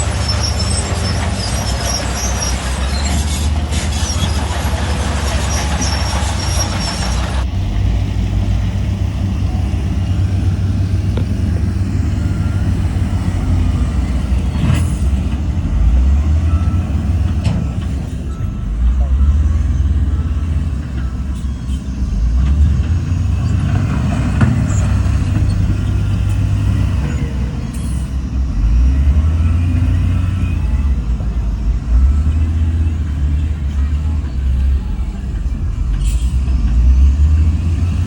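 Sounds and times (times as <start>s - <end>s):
heavy diesel engine droning: 0.0s - 38.0s.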